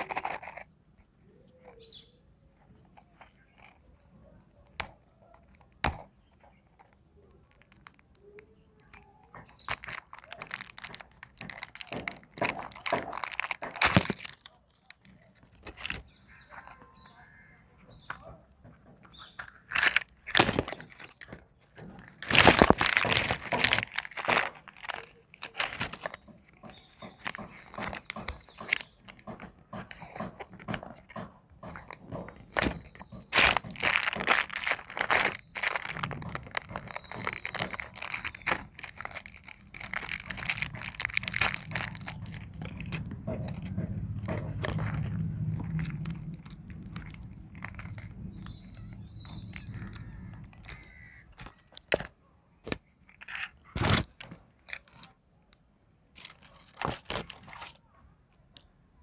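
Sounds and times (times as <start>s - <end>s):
paper crinkling and tearing: 0.0s - 0.7s, 4.8s - 17.2s, 19.0s - 52.1s, 52.7s - 55.2s, 56.2s - 58.7s
plastic toy parts clicking: 0.0s - 0.8s, 2.6s - 17.2s, 17.8s - 58.8s.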